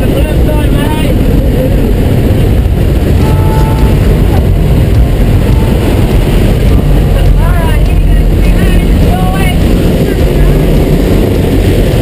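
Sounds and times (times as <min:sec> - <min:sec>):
propeller plane engine rush: 0:00.0 - 0:12.0
wind noise: 0:00.0 - 0:12.0.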